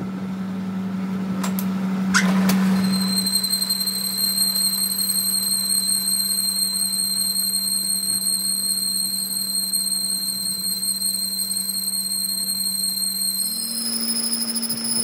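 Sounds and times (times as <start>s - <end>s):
machine humming with high whine: 0.0s - 15.0s.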